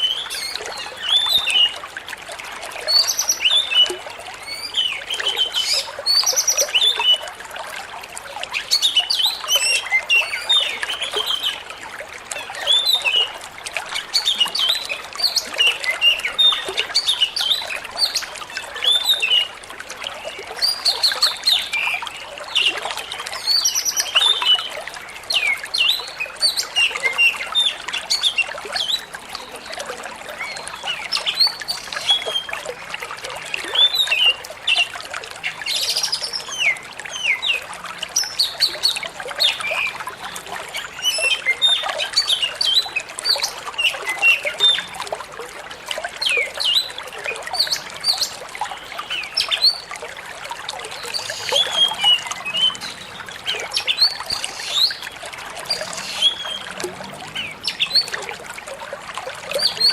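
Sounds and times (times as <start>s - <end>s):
trickle of running water: 0.0s - 59.9s.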